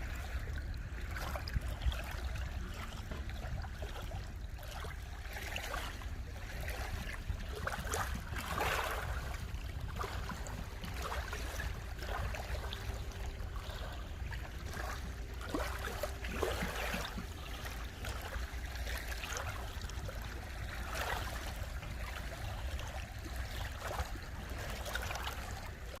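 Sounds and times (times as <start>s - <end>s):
low rumble: 0.0s - 26.0s
waves lapping at shore: 0.0s - 26.0s.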